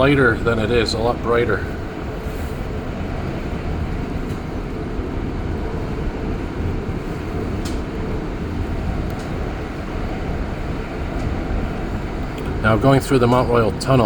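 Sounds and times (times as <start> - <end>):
train rumble from inside car: 0.0 - 14.0.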